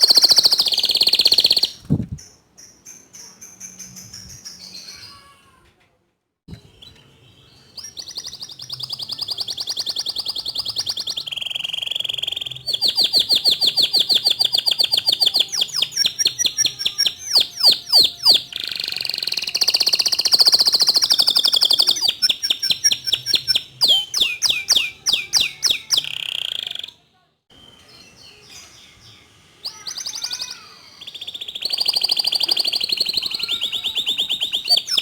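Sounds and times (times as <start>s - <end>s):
canary singing trills: 0.0s - 5.4s, 6.6s - 35.0s.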